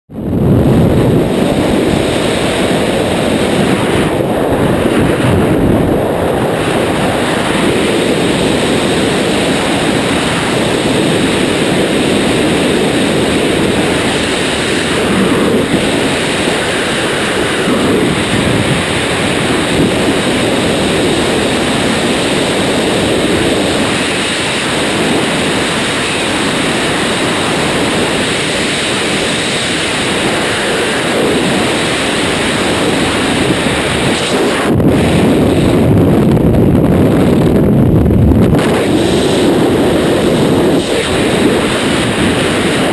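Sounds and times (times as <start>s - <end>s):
wind buffeting microphone: 0.1s - 42.9s.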